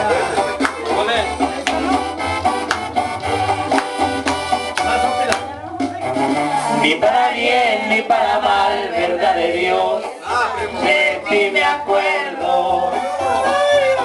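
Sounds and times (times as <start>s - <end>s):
latin backing track with bass: 0.0s - 14.0s.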